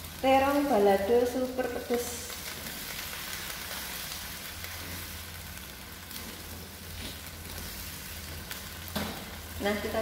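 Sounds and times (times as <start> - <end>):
frying sizzle in a wok: 0.0 - 10.0.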